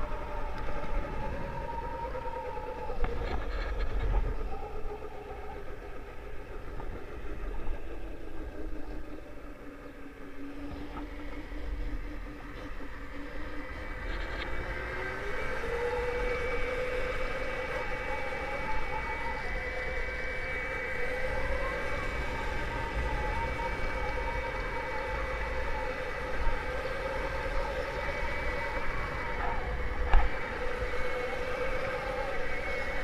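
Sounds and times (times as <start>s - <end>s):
electric motor whine: 0.0s - 33.0s.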